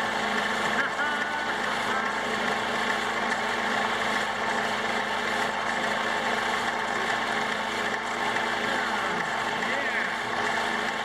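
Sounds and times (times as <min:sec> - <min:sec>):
electric bandsaw running: 0:00.0 - 0:11.0
noisy gear drive: 0:00.0 - 0:11.0.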